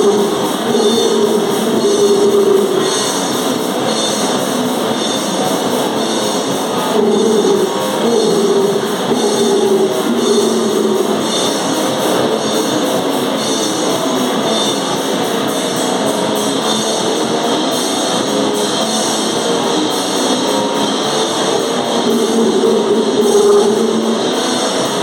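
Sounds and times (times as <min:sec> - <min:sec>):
distorted guitar: 0:00.0 - 0:25.0
fast drumming: 0:00.0 - 0:25.0.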